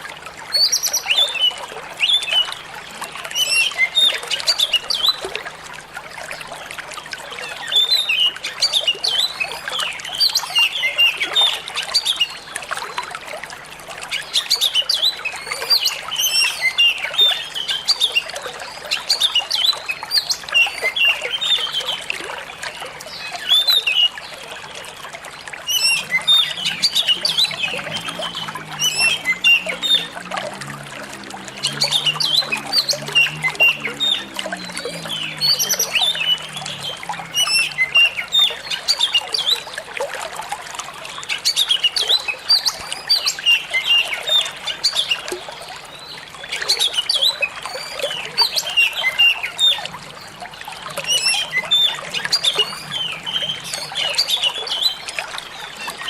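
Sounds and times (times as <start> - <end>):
water trickling: 0.0 - 56.0
songbirds chirping: 6.1 - 56.0.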